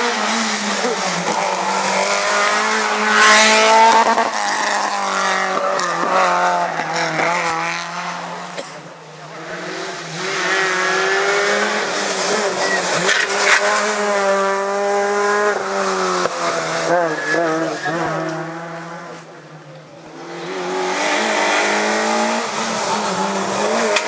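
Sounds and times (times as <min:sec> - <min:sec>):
rally car engines revving past: 0:00.0 - 0:24.0.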